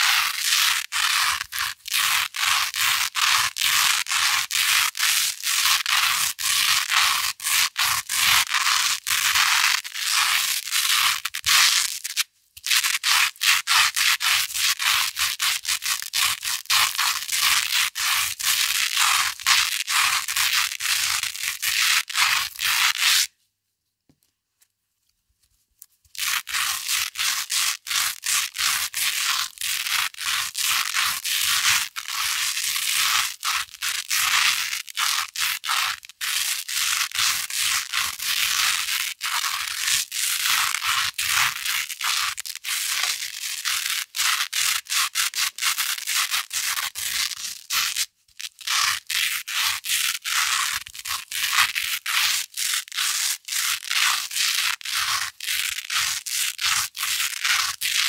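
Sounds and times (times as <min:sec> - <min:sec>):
velcro scratching: 0:00.0 - 0:23.4, 0:25.4 - 0:58.0.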